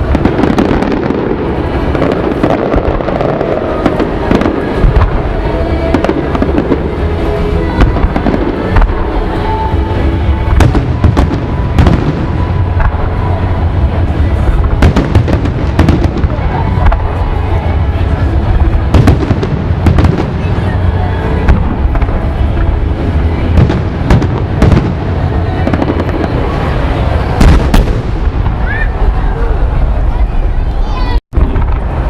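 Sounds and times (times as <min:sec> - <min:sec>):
fireworks bangs: 0:00.0 - 0:30.7, 0:31.3 - 0:32.0
music playing: 0:00.0 - 0:31.2
low rumble: 0:00.0 - 0:32.0.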